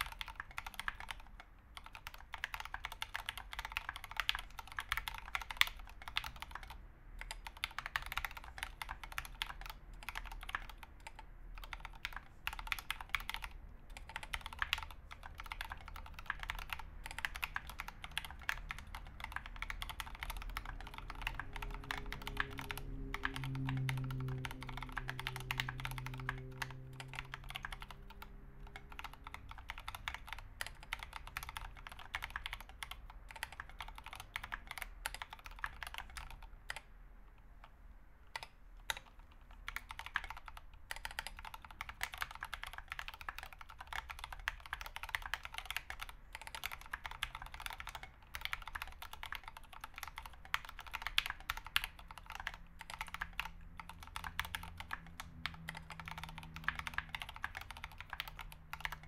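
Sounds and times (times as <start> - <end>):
fast typing on mechanical keyboard: 0.0 - 36.9, 38.3 - 59.0.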